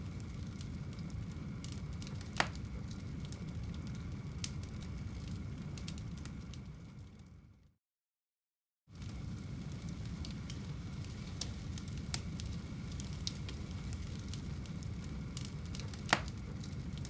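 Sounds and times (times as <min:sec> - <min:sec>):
fire burning in a fireplace: 0:00.0 - 0:07.8, 0:08.9 - 0:17.0.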